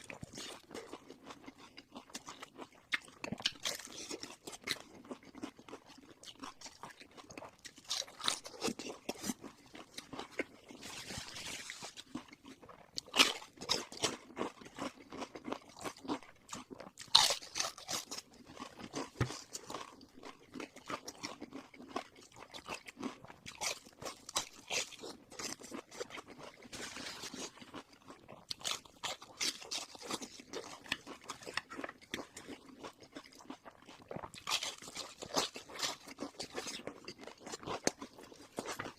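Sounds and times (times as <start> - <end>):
crunchy bites and chewing: 0.0 - 38.9.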